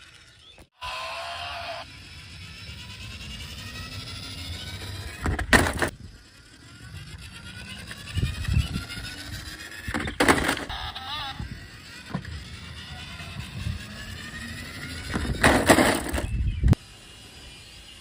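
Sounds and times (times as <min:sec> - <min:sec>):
small motor whirring: 0:00.0 - 0:18.0.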